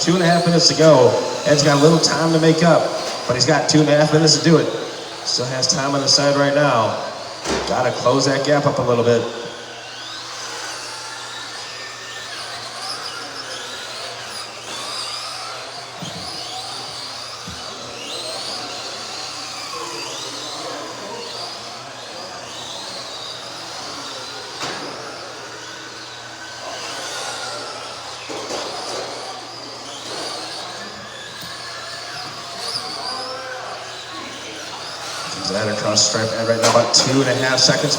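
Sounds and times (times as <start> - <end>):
electric motors whining: 0.0 - 37.9.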